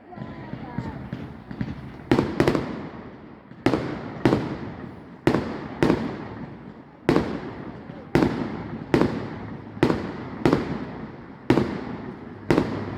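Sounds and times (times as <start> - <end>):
fireworks bursting with echo: 0.0 - 12.9.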